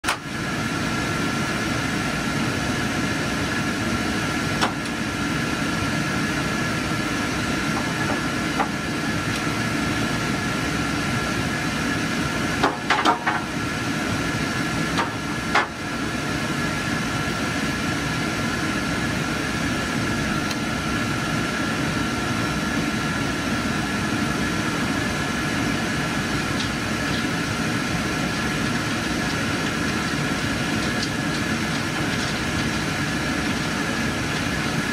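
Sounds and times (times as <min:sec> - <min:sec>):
projection machinery hum: 0:00.0 - 0:34.9.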